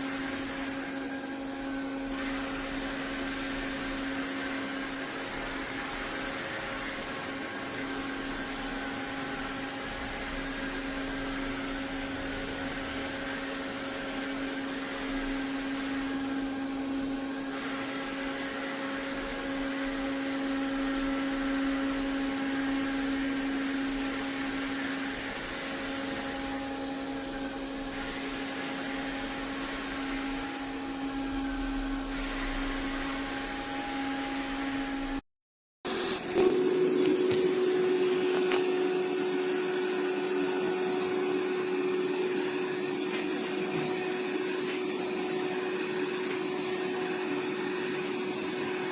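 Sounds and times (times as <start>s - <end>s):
robot vacuum running: 0.0s - 35.2s, 35.9s - 48.9s.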